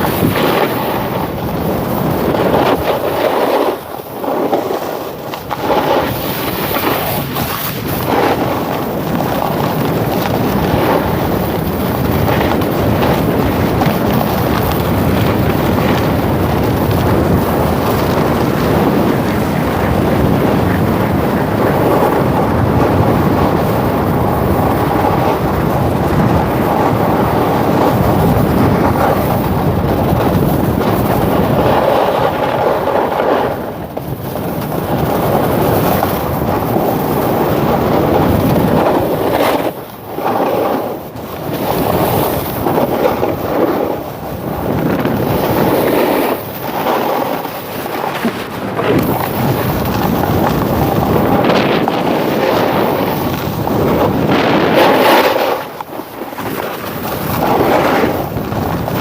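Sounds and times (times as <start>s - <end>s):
snowboard scraping over snow: 0.0s - 59.0s
wind buffeting microphone: 0.0s - 59.0s.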